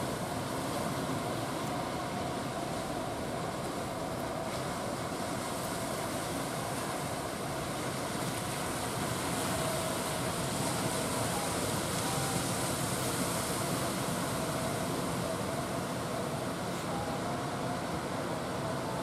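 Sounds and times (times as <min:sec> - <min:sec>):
distant outboard engine drone: 0:00.0 - 0:19.0.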